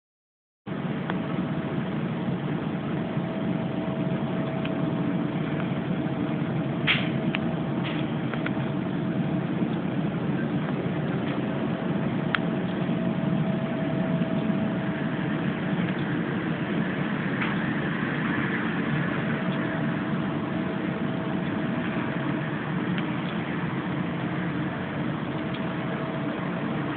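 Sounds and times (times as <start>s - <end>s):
low droning rumble: 0.7s - 26.9s.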